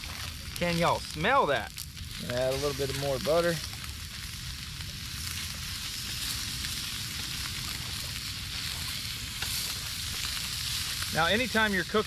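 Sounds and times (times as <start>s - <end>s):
fish sizzling on a griddle: 0.0s - 12.0s.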